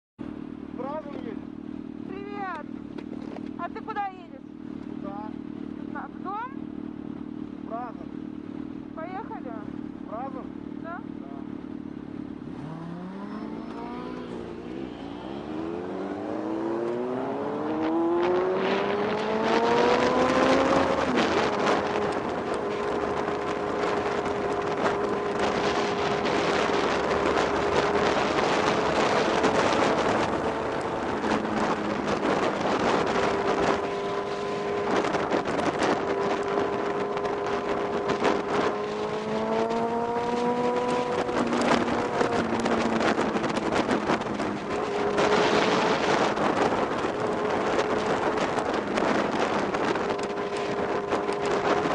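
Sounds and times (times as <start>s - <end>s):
road and wind noise: 0.2s - 51.9s
car engine accelerating: 4.7s - 51.9s.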